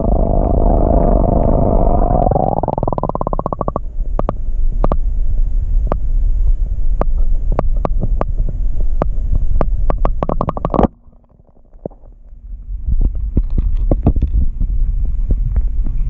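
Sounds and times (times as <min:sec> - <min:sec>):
muffled underwater rumble: 0:00.0 - 0:16.0.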